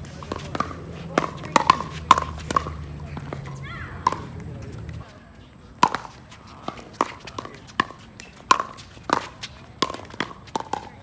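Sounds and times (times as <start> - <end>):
footsteps on hard court: 0.0 - 11.0.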